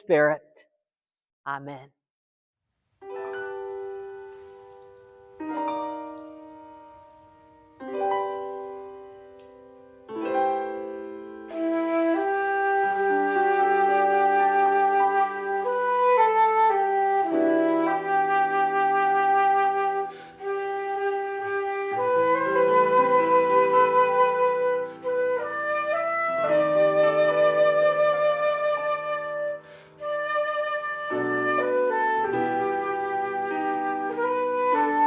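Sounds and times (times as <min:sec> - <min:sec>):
flute melody: 0:03.1 - 0:35.0.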